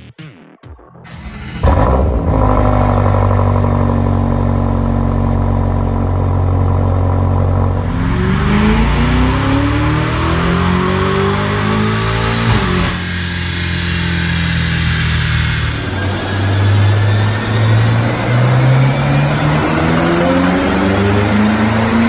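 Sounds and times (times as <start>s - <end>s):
car engine revving: 0.8s - 22.0s
faint rising whine: 1.1s - 22.0s.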